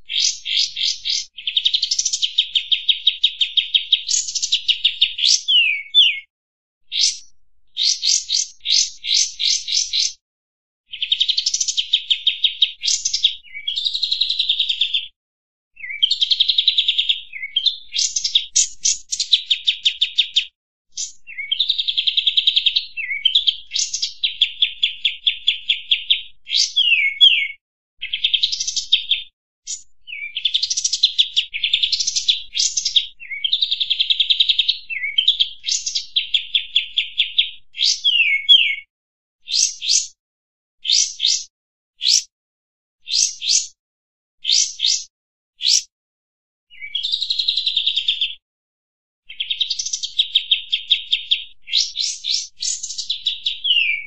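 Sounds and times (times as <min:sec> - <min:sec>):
bird chattering and whistling: 0:00.1 - 0:06.3, 0:06.9 - 0:10.2, 0:10.9 - 0:15.0, 0:15.8 - 0:20.4, 0:21.0 - 0:33.8, 0:34.4 - 0:38.8, 0:39.5 - 0:40.1, 0:40.8 - 0:42.3, 0:43.1 - 0:43.7, 0:44.4 - 0:45.9, 0:46.7 - 0:47.8, 0:49.3 - 0:54.0.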